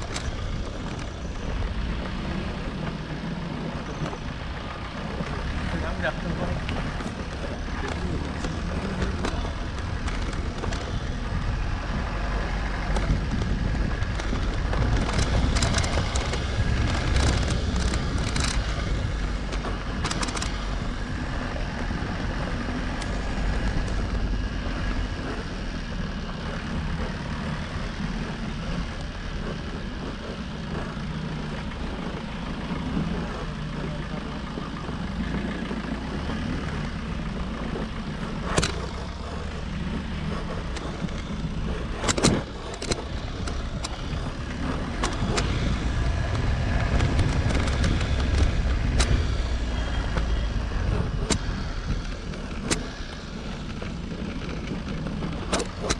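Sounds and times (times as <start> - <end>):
motorcycle engine running: 0.0 - 55.9
road and wind noise: 0.0 - 55.9
sharp clicks and rattles: 0.0 - 55.9.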